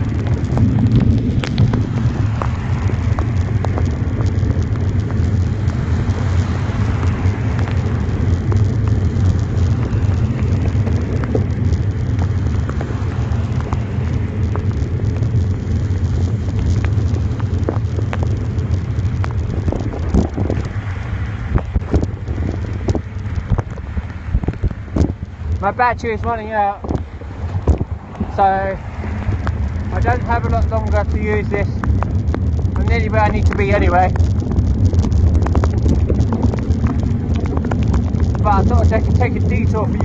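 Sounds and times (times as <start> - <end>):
heavy rain: 0.0 - 40.0
raindrops ticking on phone: 0.0 - 40.0
wind noise rumble: 0.0 - 40.0.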